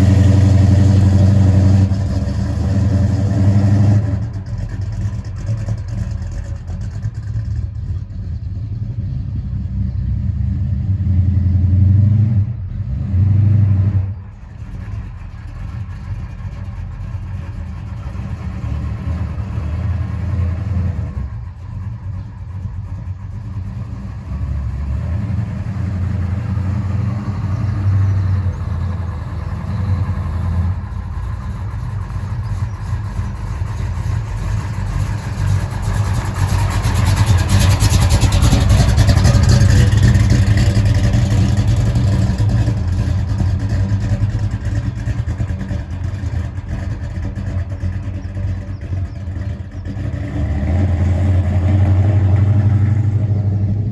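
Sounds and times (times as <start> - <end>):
car engine rumbling: 0.0 - 53.9.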